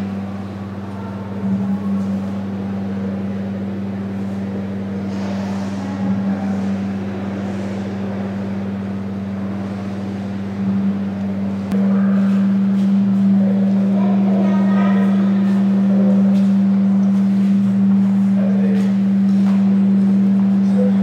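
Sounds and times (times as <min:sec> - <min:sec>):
low drone: 0:00.0 - 0:21.0.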